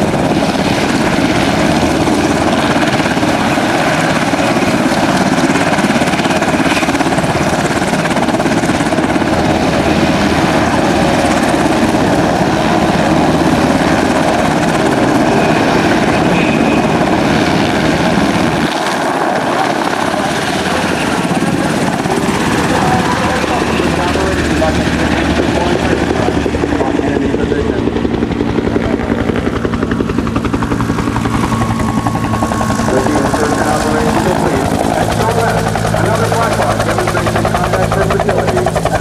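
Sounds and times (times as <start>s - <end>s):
helicopter rotor and engine drone: 0.0s - 39.0s.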